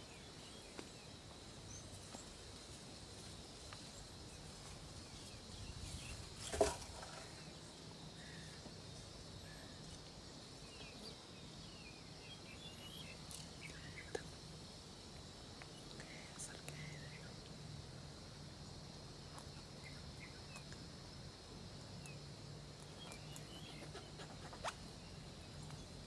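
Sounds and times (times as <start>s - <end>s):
high insect hum: 0.0s - 26.0s.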